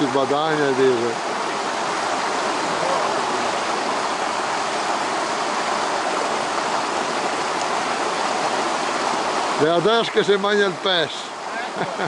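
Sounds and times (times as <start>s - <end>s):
fast-flowing stream rushing: 0.0s - 12.0s.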